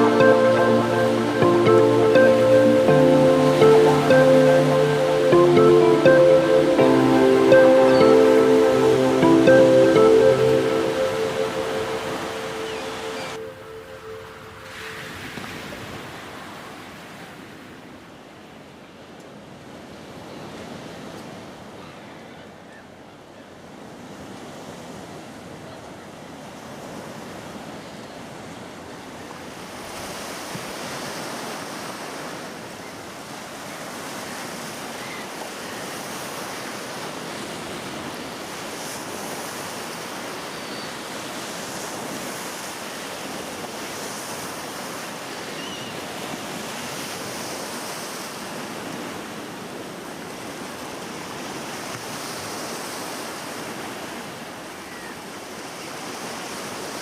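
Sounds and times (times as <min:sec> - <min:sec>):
waves breaking on shore: 0:00.0 - 0:18.8, 0:23.7 - 0:57.0.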